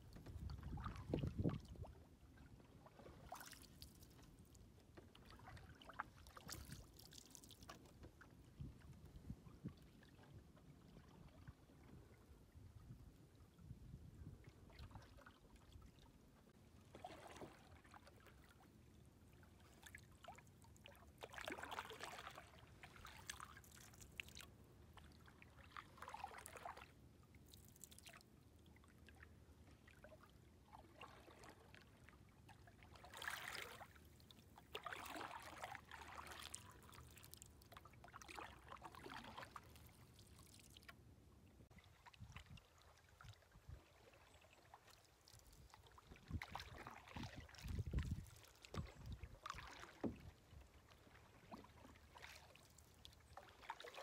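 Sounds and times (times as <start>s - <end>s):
paddle swishing in water: 0.0s - 13.1s, 14.2s - 28.2s, 29.8s - 41.0s, 41.7s - 54.0s.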